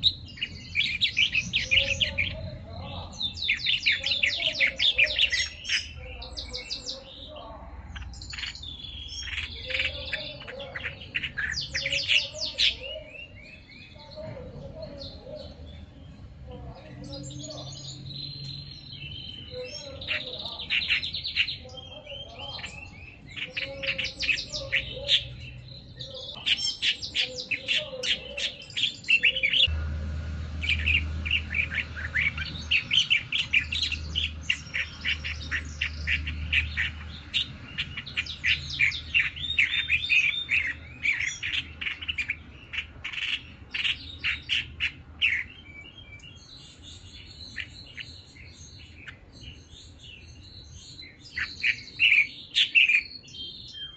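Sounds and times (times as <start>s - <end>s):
bird chirping and trilling: 0.0s - 53.9s.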